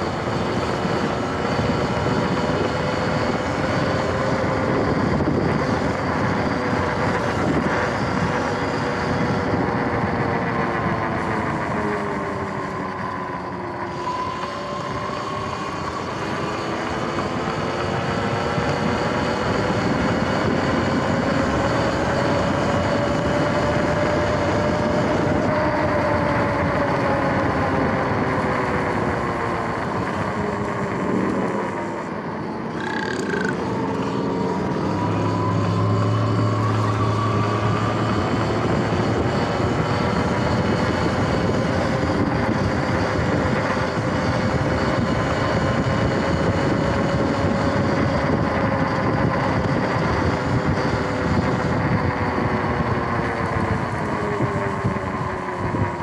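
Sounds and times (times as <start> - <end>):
electric motor whining: 0.0 - 56.0
road and wind rush: 0.0 - 56.0.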